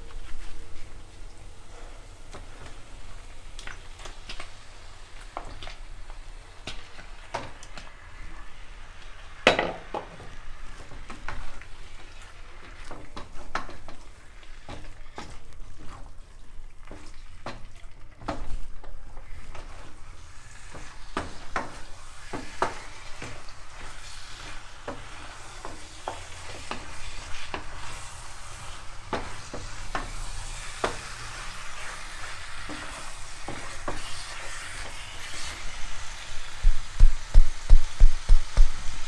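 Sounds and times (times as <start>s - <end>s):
chicken sizzling in a pan: 0.0s - 39.0s.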